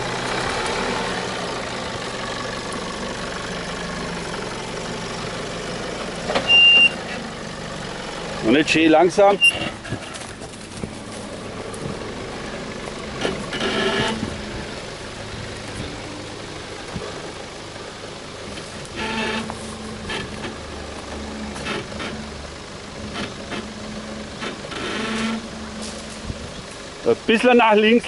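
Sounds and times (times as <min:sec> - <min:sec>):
car engine at low revs: 0:00.0 - 0:28.0.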